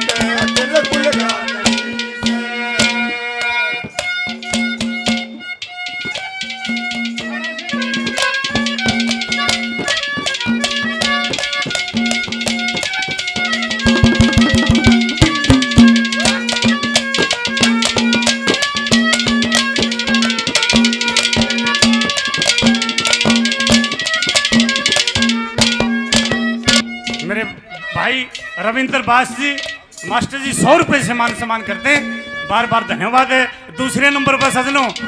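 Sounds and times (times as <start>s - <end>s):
hand drum rhythm: 0.0s - 32.8s, 34.0s - 35.0s
folk melody instrument: 0.0s - 35.0s.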